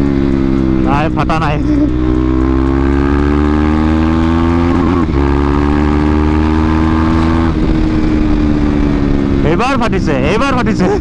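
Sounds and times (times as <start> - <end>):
motorcycle engine accelerating hard: 0.0 - 11.0.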